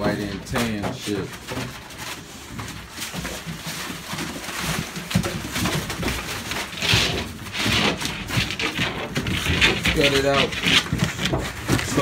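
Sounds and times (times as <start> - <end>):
newspaper rustling: 0.0 - 12.0
puppies grunting: 0.0 - 12.0.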